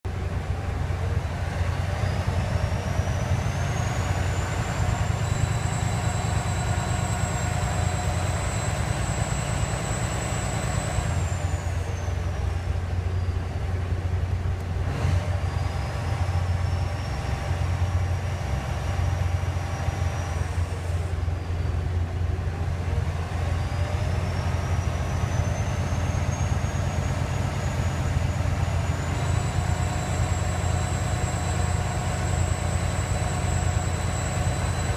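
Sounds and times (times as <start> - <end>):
diesel engine running: 0.0 - 34.9
turbocharger whistle: 1.6 - 13.9, 14.9 - 22.0, 23.2 - 34.9.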